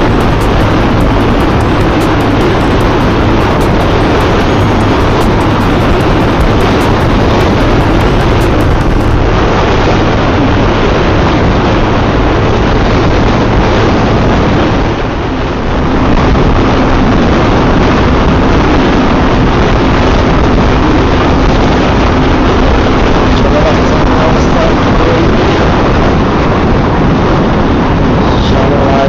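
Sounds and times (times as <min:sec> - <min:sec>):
motorcycle riding at speed: 0:00.0 - 0:29.0
wind on microphone: 0:00.0 - 0:29.0.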